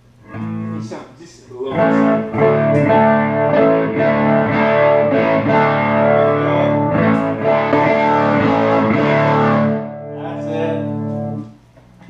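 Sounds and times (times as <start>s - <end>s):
electric guitar chords: 0.0s - 1.0s, 1.6s - 11.6s.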